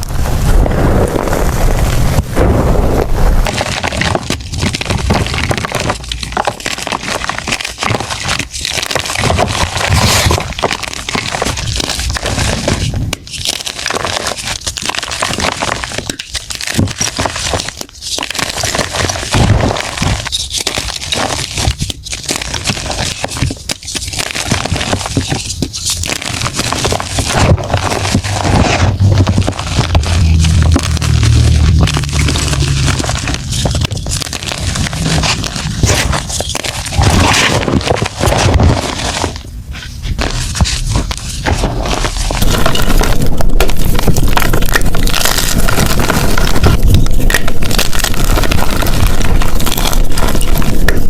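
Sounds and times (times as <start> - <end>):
chalk being crushed by hand: 3.0 - 51.0.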